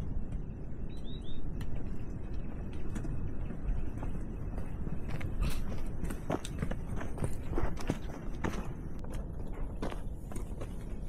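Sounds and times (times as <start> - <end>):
low steady rumble: 0.0 - 11.0
footsteps on rocky trail: 0.1 - 11.0.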